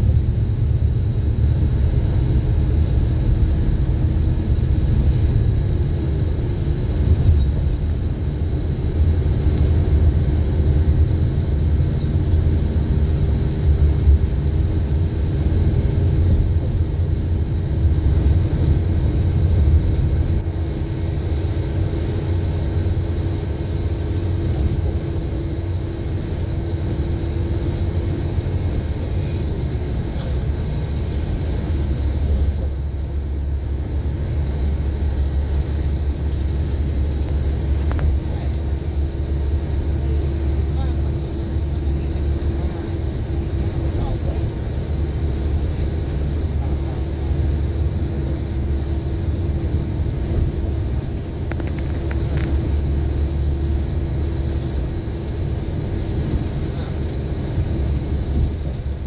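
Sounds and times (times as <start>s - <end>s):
vehicle rumble from inside cabin: 0.0s - 59.0s.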